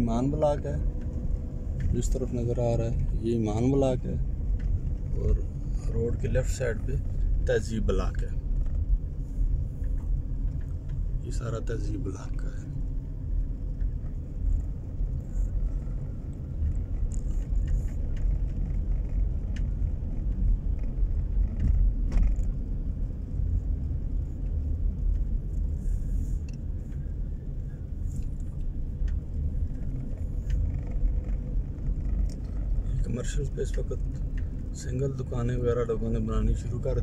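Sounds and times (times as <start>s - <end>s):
car tyre and engine rumble: 0.0s - 37.0s
faint ticks and rattles: 0.0s - 37.0s.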